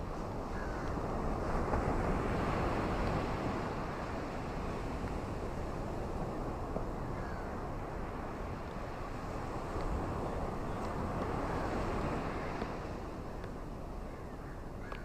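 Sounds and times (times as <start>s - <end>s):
ocean surf washing onto beach: 0.0s - 14.8s.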